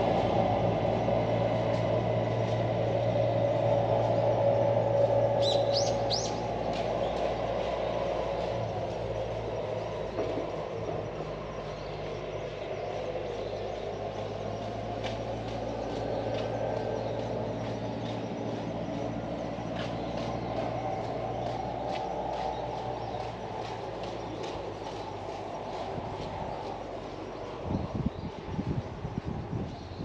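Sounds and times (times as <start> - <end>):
low hum: 0.0 - 29.7
distant vehicle rumble: 0.0 - 30.0.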